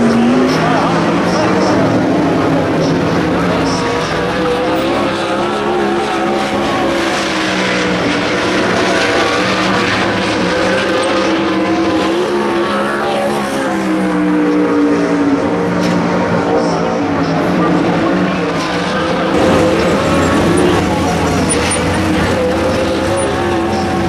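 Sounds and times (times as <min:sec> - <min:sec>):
racing engines idling: 0:00.0 - 0:24.0.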